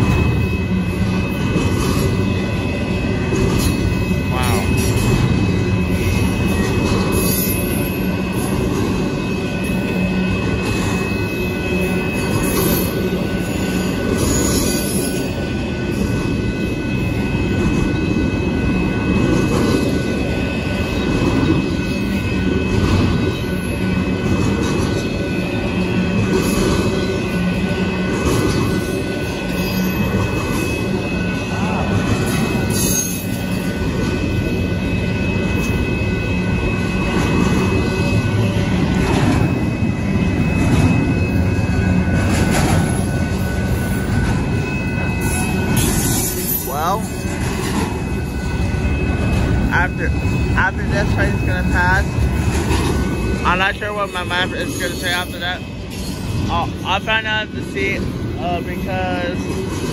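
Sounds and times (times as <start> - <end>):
freight train rumbling and clattering: 0.0 - 59.9
steady high-pitched ringing tone: 0.0 - 59.9.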